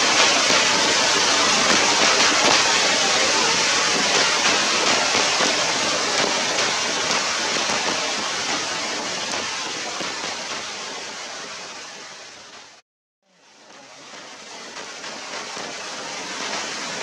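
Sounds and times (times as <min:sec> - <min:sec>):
steady rain falling: 0:00.0 - 0:12.8, 0:13.4 - 0:17.0.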